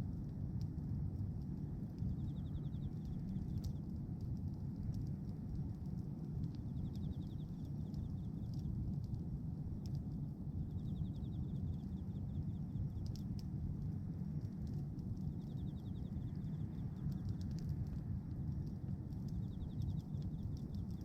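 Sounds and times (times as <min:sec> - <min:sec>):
bonfire rumbling: 0:00.0 - 0:21.0
fire crackles and pops: 0:00.0 - 0:21.0.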